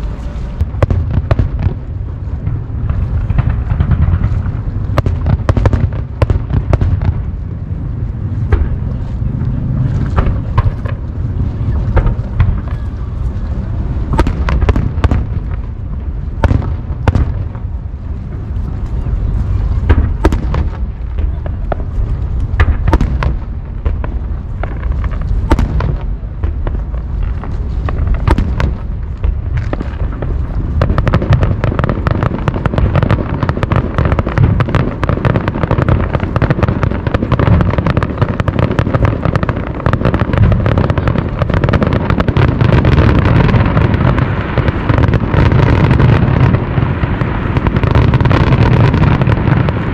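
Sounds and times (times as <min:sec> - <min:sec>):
dense fireworks crackling: 0:00.0 - 0:49.9
fireworks booming and cracking: 0:00.0 - 0:49.9
low rumble: 0:00.0 - 0:49.9.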